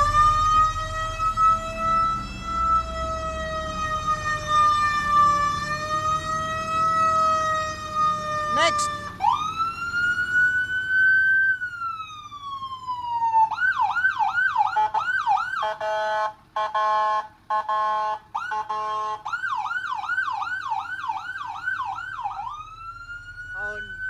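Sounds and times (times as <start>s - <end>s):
fire truck siren wailing and yelping: 0.0s - 24.0s.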